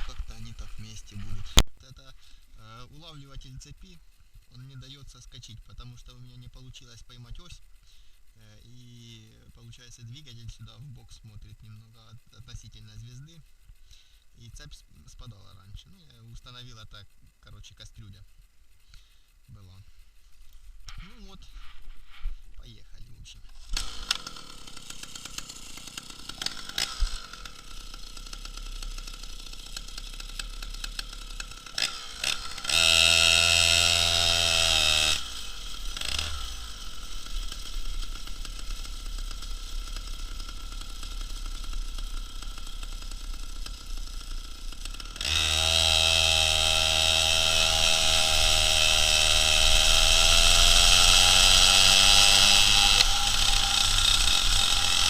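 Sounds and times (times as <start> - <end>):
two-stroke moped engine revving: 0.0 - 17.2, 23.4 - 55.0.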